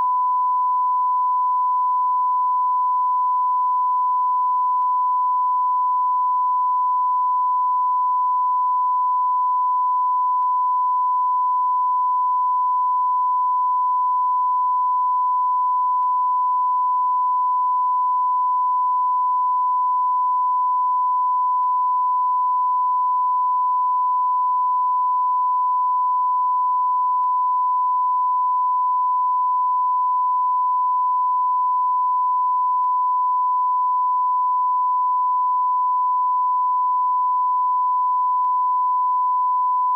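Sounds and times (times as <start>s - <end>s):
steady sine-wave beep: 0.0s - 39.9s.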